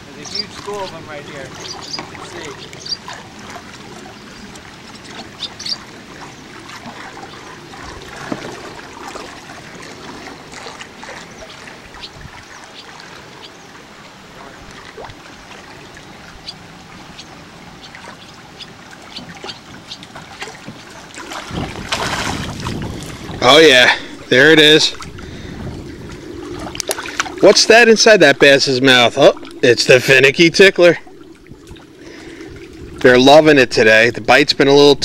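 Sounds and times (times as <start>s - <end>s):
water lapping around a boat: 0.0s - 35.0s.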